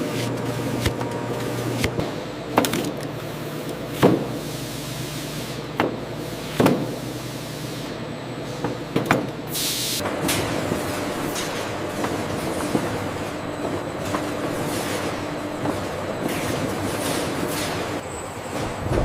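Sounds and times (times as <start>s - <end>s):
factory machinery running: 0.0s - 19.0s.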